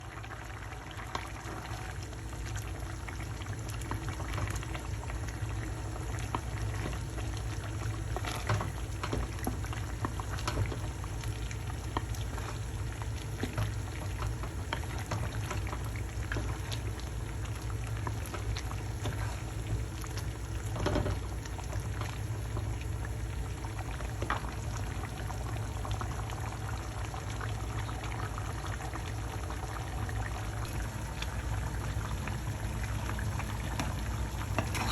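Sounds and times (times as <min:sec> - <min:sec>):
food bubbling in a pot: 0:00.0 - 0:34.9.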